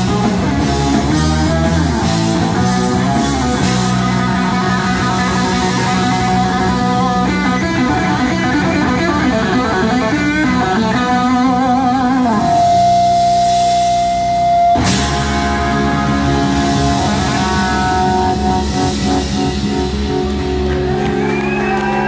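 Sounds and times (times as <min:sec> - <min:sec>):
bass guitar: 0:00.0 - 0:22.0
drums: 0:00.0 - 0:22.0
electric guitar solo: 0:00.0 - 0:22.0.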